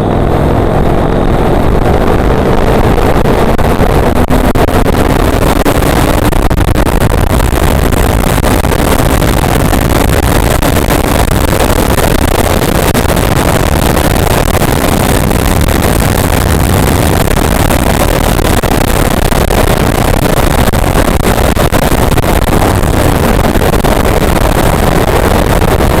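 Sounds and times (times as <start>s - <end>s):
motorcycle engine roar: 0.0s - 26.0s
wind rushing on microphone: 0.0s - 26.0s.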